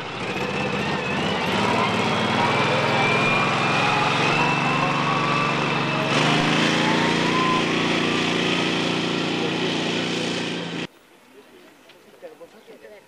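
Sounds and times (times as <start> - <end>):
faint rising whine: 0.0 - 10.7
utility vehicle engine running: 0.0 - 10.9.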